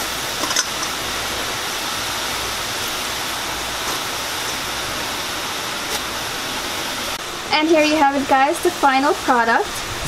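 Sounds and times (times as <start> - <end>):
dough sizzling in hot oil: 0.0 - 10.0.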